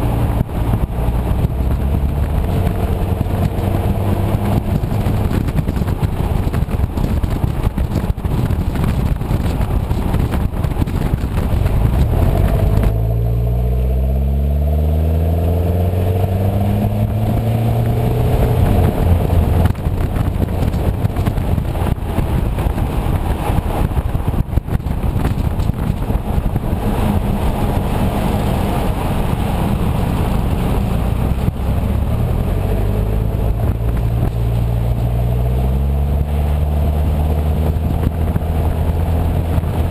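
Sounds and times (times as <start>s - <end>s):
diesel engine accelerating: 0.0s - 39.9s
rushing noise: 0.0s - 39.9s.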